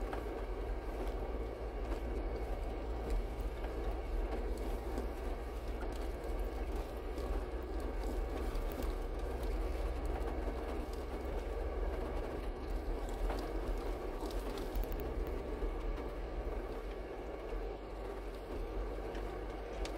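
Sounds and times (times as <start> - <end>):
tyres rolling over stones: 0.0 - 19.9
vehicle engine running: 0.0 - 19.9.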